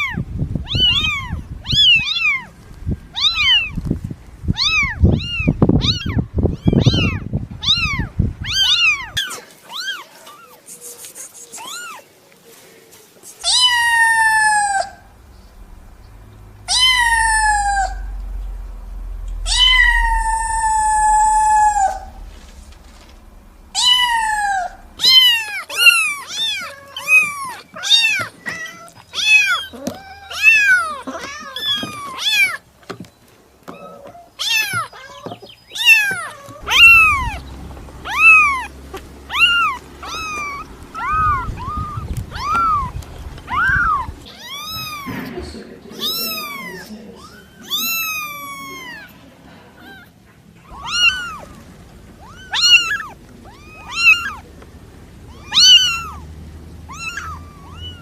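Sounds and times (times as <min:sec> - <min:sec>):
cat meowing: 0:00.0 - 0:02.5, 0:03.1 - 0:03.8, 0:04.5 - 0:10.6, 0:11.6 - 0:12.0, 0:13.4 - 0:32.6, 0:33.7 - 0:45.2, 0:45.9 - 0:49.2, 0:49.8 - 0:54.5, 0:55.2 - 0:58.0.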